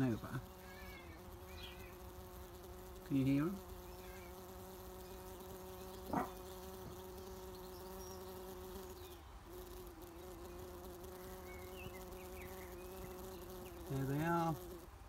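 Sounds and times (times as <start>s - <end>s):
bumblebees buzzing hum: 0.0s - 15.0s.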